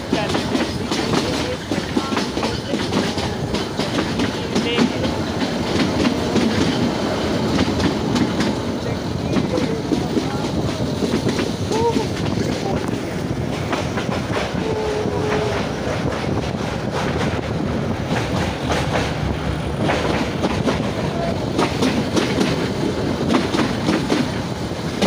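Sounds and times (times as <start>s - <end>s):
wheels clacking over rail joints: 0.0s - 14.6s, 15.2s - 25.0s
train coaches rumbling: 0.0s - 25.0s.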